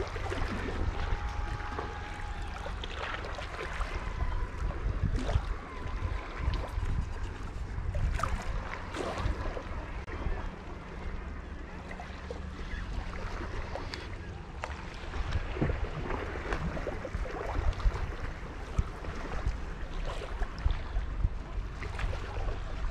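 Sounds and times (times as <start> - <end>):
waves lapping against rocks: 0.0 - 22.9
wind buffeting microphone: 0.0 - 22.9.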